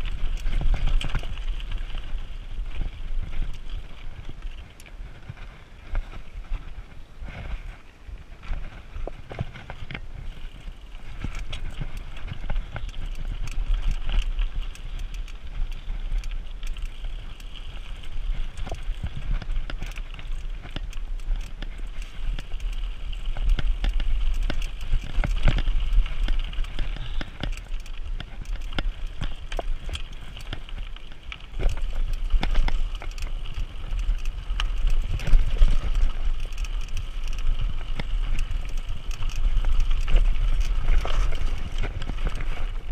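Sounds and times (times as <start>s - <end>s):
bike clicking and rattling: 0.0s - 42.9s
bike tyres crunching on stones: 0.0s - 42.9s
wind rumble on microphone: 0.0s - 42.9s.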